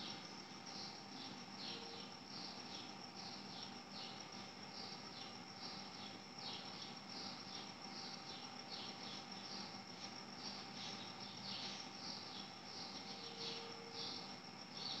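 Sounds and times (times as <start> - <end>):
faint cricket chirping: 0.0 - 15.0.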